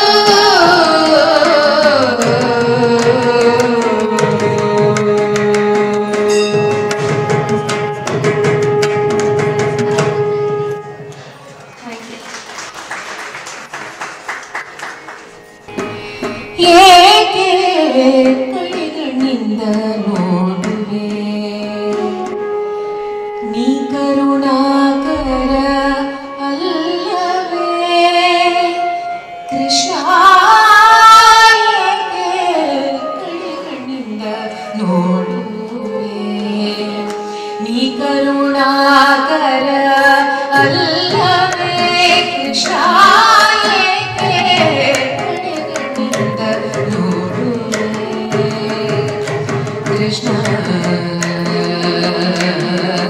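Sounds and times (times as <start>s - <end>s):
woman singing: 0.0s - 7.8s, 15.7s - 22.6s, 23.3s - 53.0s
tabla: 0.0s - 13.3s, 15.3s - 53.0s.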